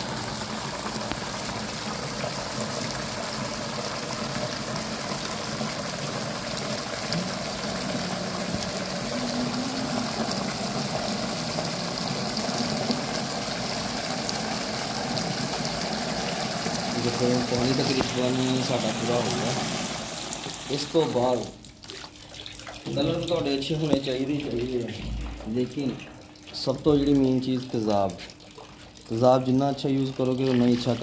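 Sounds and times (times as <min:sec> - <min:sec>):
water pouring from a hose: 0:00.0 - 0:31.0.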